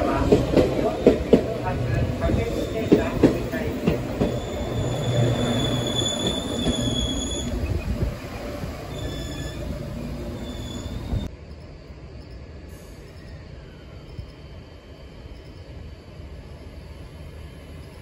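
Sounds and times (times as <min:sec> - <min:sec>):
electric train running hum: 0:00.0 - 0:18.0
train wheel squeal: 0:02.2 - 0:11.3, 0:12.2 - 0:18.0.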